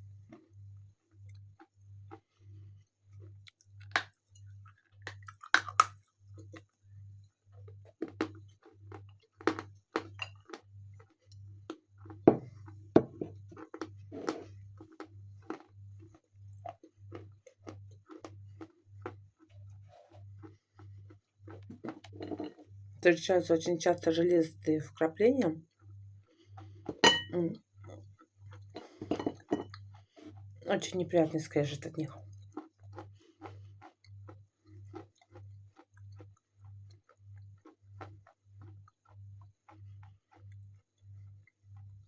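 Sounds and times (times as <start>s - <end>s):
crunching and chewing chalk: 0.1s - 22.7s, 25.7s - 27.0s, 27.8s - 30.9s, 32.1s - 42.0s.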